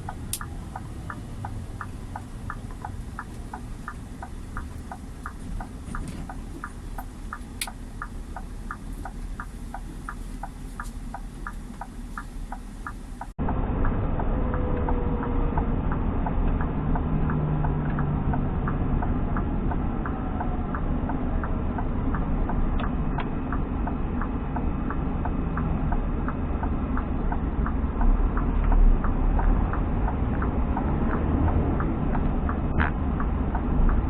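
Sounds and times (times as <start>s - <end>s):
truck diesel engine droning: 0.0s - 34.0s
turn signal ticking: 0.0s - 34.0s.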